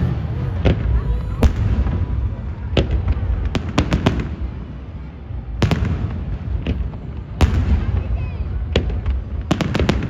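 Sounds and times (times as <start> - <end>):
continuous low rumble: 0.0 - 10.0
fireworks bursting: 0.0 - 10.0.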